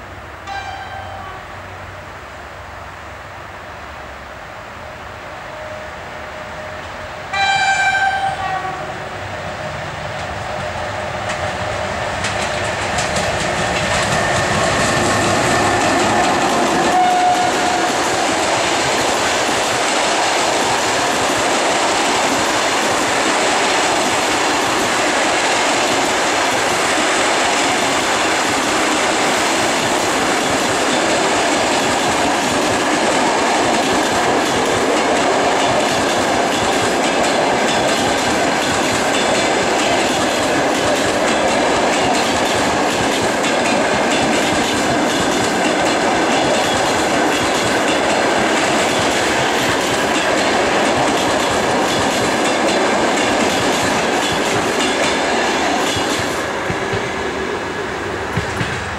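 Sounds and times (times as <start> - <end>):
fast train rushing past: 0.0 - 58.9.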